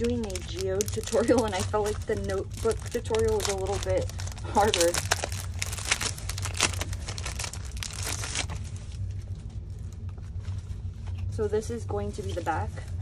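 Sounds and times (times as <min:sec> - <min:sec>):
plastic wrapping crinkling: 0:00.0 - 0:11.3.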